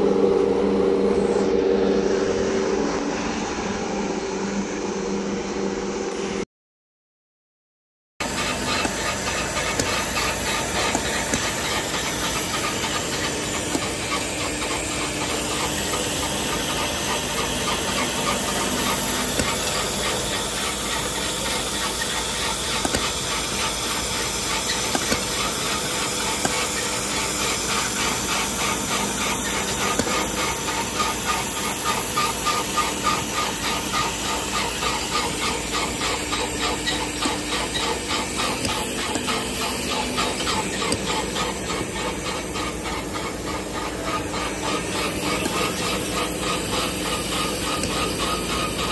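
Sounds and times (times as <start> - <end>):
machine hissing: 8.2 - 48.9.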